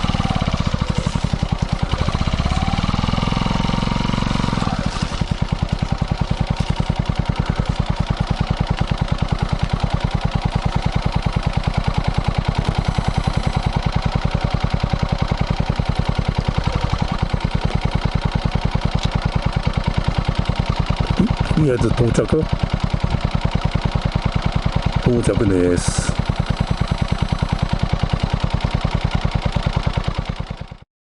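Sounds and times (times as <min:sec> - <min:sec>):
motorcycle engine idling: 0:00.0 - 0:30.8.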